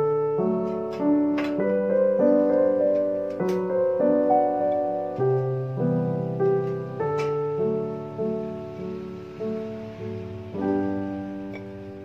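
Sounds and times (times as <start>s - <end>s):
gentle solo piano piece: 0.0s - 12.0s.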